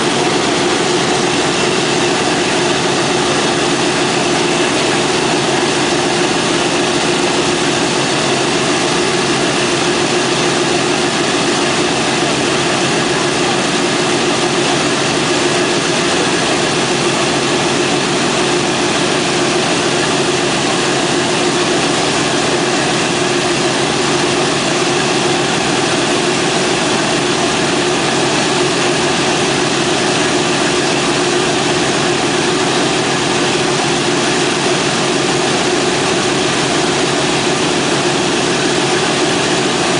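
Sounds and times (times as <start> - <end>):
aircraft radial engines idling: 0.0 - 39.9.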